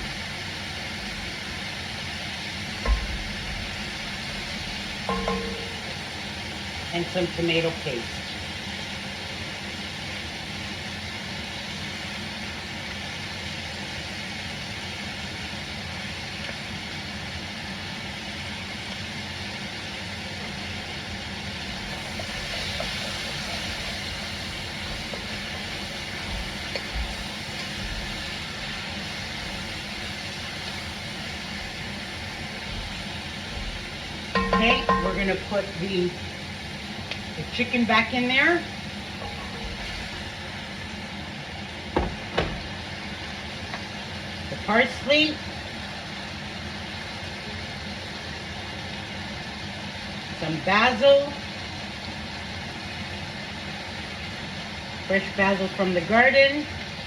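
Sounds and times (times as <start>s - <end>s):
sauce cooking hiss: 0.0s - 57.0s.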